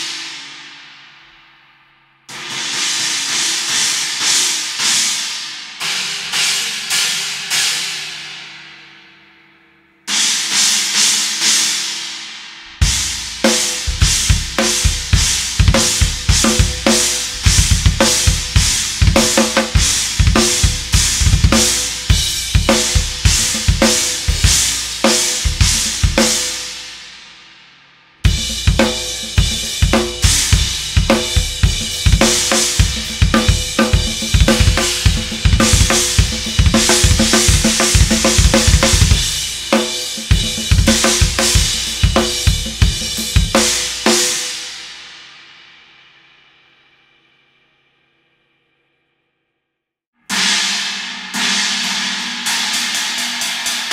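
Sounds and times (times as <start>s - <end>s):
drum kit groove: 0.0s - 0.8s, 2.3s - 8.2s, 10.1s - 27.4s, 28.2s - 45.2s, 50.3s - 53.9s.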